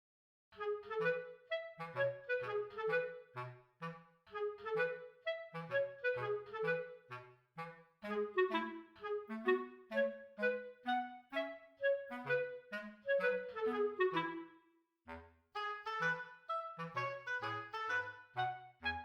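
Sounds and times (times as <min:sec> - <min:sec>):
bouncy light melody: 0:00.6 - 0:19.0.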